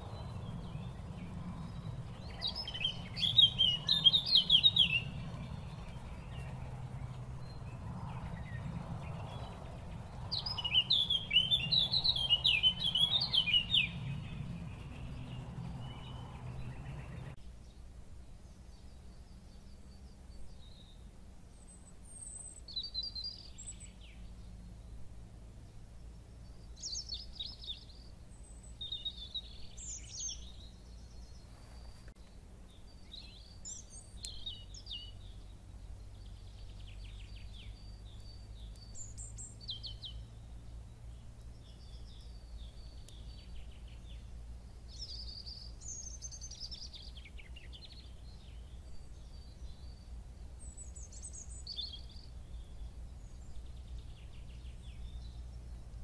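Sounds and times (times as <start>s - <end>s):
low background rumble: 0.0s - 56.0s
songbirds singing: 0.0s - 56.0s.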